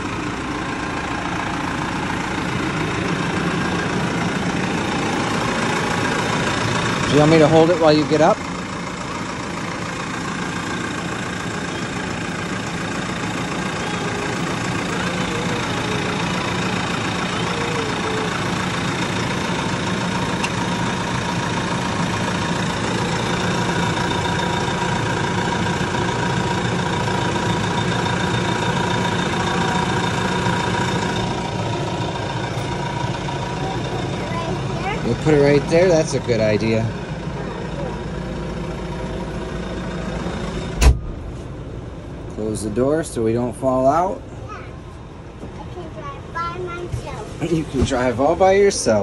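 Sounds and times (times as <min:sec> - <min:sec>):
tractor engine idling: 0:00.0 - 0:49.0.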